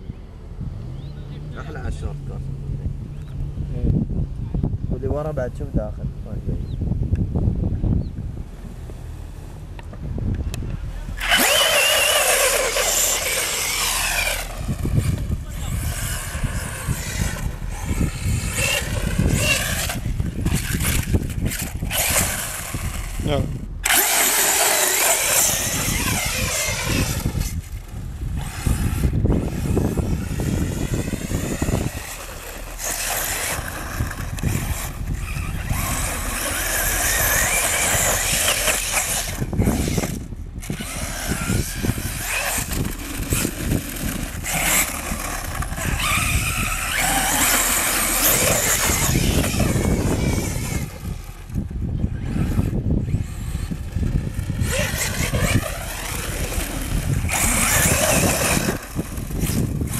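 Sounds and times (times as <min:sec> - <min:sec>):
electric motor whining: 0:10.5 - 0:59.9.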